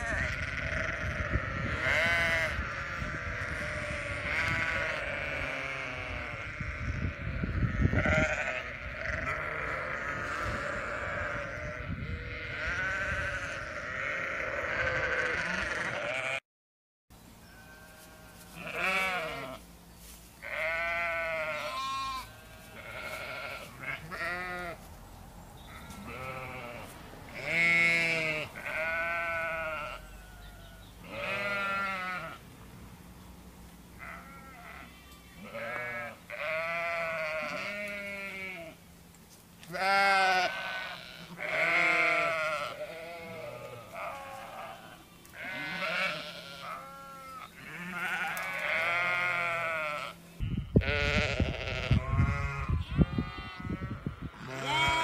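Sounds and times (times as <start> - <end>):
sheep bleating: 0.0 - 16.4, 17.5 - 19.6, 20.4 - 24.8, 25.7 - 32.4, 34.0 - 38.8, 39.6 - 55.0.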